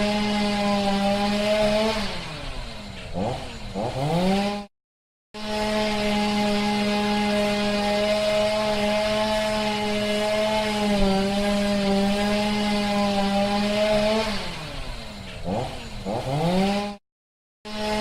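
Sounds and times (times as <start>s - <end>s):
chainsaw engine revving: 0.0s - 4.7s, 5.4s - 17.0s, 17.7s - 18.0s.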